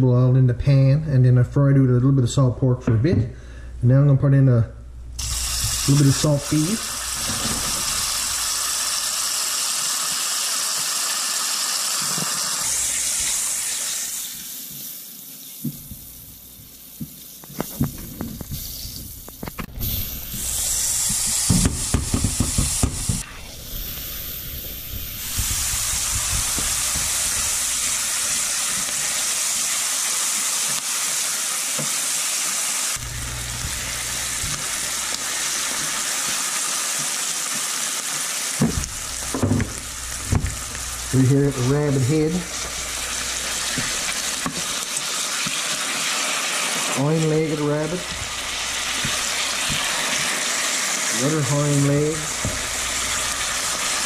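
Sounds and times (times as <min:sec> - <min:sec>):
meat sizzling in frying pan: 0:05.2 - 0:54.0.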